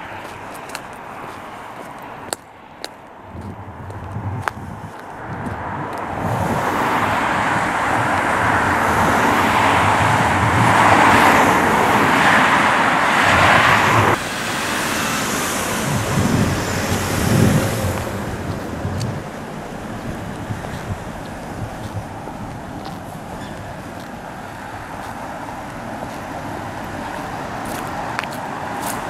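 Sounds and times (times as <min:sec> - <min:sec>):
road traffic noise: 0:00.0 - 0:29.0
car passing close by: 0:05.2 - 0:29.0.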